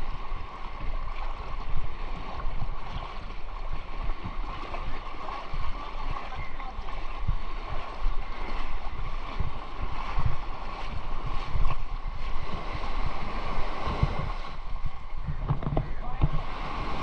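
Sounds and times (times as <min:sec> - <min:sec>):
small waves washing on sand: 0:00.0 - 0:17.0
wind buffeting microphone: 0:00.0 - 0:17.0.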